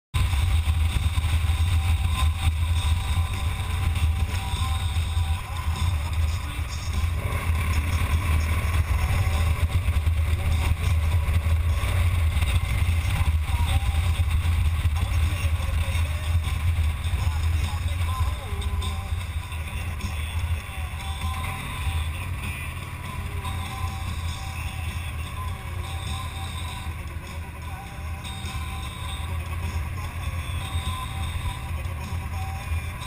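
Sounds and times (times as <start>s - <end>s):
motorcycle engine rumbling: 0.1s - 33.0s.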